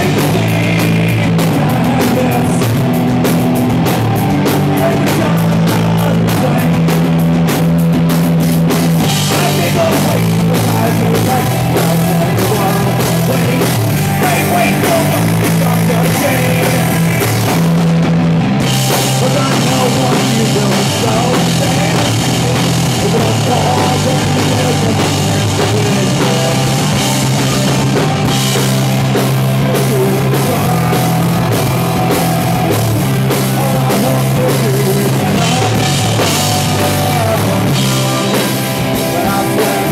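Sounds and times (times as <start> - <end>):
man singing: 0.0 - 7.6, 9.0 - 17.7, 18.9 - 27.8, 28.4 - 39.9
rock band playing: 0.0 - 39.9.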